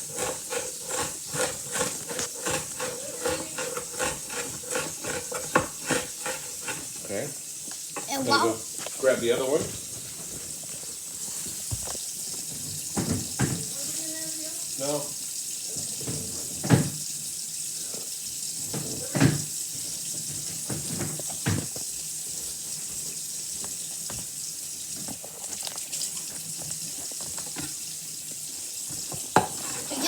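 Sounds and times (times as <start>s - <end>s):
tap water running into sink: 0.0s - 30.0s.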